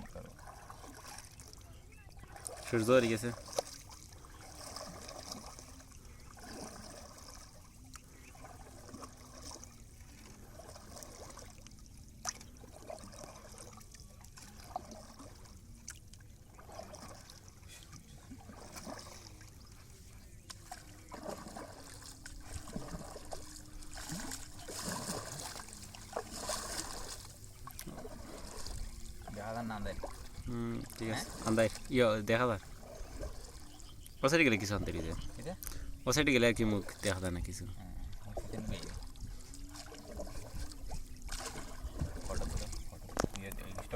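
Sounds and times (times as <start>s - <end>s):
soft paddle splashes: 0.0s - 36.0s, 36.6s - 43.9s
water sloshing around a boat: 0.0s - 43.9s.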